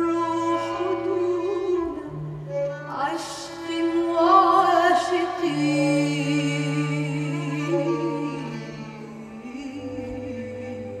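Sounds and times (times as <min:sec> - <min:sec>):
acoustic ensemble music: 0:00.0 - 0:11.0
person singing long notes: 0:00.0 - 0:11.0.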